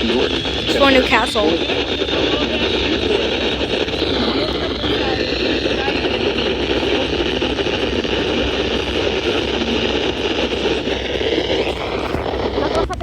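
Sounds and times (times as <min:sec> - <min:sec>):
low hum: 0:00.0 - 0:13.0
radio static and hiss: 0:00.0 - 0:13.0.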